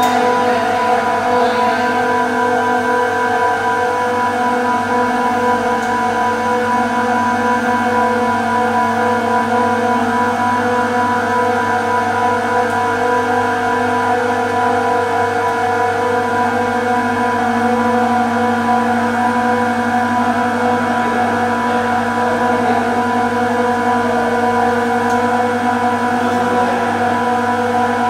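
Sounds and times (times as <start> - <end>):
compressor machine hum: 0.0 - 28.0.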